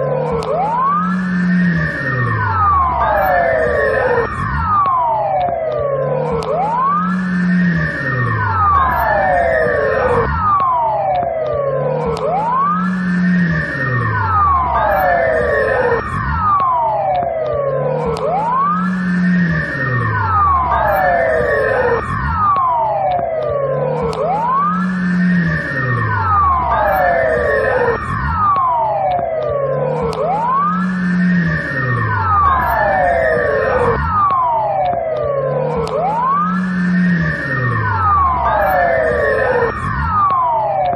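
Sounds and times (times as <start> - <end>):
low siren tone rising and falling: 0.0 - 40.9
police siren wailing: 0.0 - 40.9.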